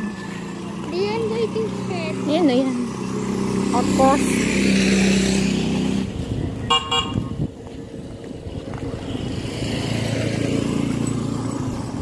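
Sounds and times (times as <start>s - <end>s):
motorcycle engine passing: 0.0s - 7.4s, 8.4s - 12.0s
vehicle engine: 0.0s - 12.0s.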